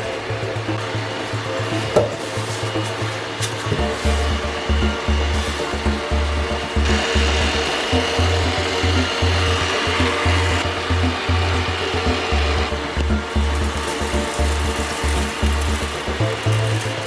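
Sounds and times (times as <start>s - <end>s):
music with pulsing bass beat: 0.0s - 17.0s.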